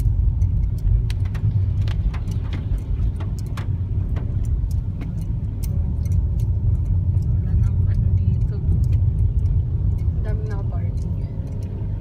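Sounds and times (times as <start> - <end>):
engine and tyre rumble: 0.0 - 12.0
sharp ticks: 0.0 - 12.0.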